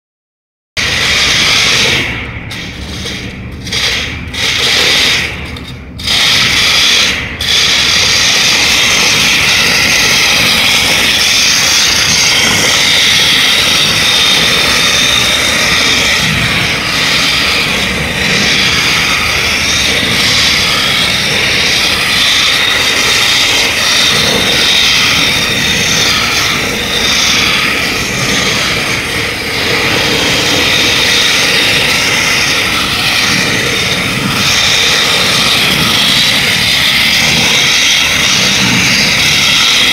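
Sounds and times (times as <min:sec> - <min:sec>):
robot drive motors whining: 0:00.8 - 0:39.9.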